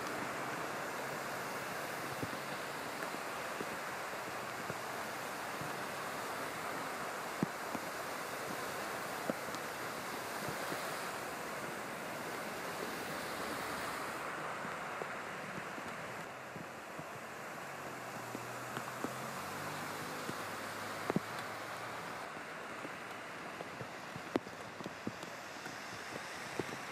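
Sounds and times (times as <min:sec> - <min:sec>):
cars driving through floodwater: 0:00.0 - 0:26.9
heavy rain: 0:00.0 - 0:26.9.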